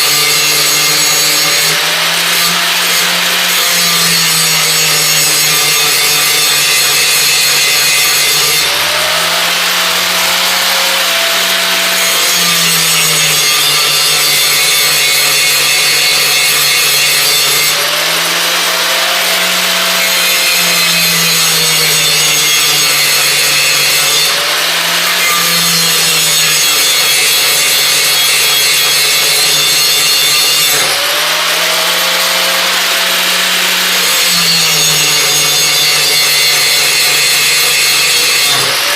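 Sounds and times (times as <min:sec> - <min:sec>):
angle grinder grinding steel: 0:00.0 - 0:38.9.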